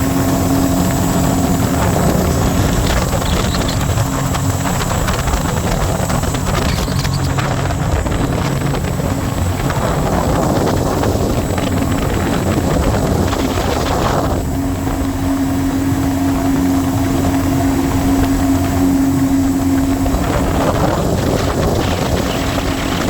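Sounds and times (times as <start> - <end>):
boat engine running: 0.0 - 23.0
wind and water rushing: 0.0 - 23.0.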